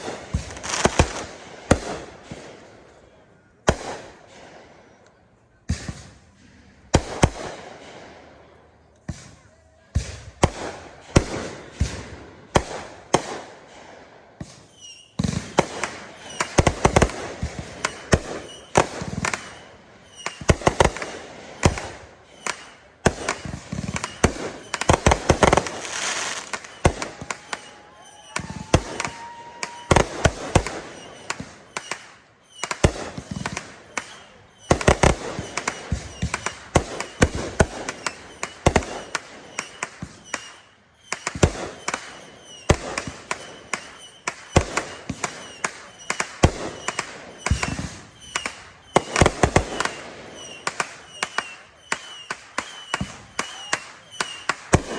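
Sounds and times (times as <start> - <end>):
fireworks booming: 0.0 - 2.8, 5.6 - 8.2, 9.0 - 54.9
fireworks crackle: 0.0 - 2.8, 10.0 - 54.9.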